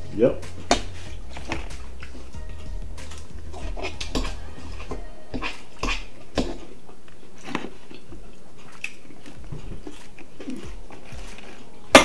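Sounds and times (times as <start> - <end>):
people chewing salad: 0.0 - 12.0.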